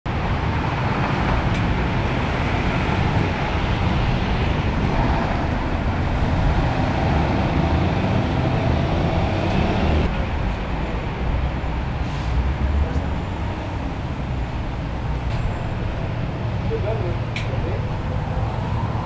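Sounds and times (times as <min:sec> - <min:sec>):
passing road traffic rumble: 0:00.1 - 0:19.0.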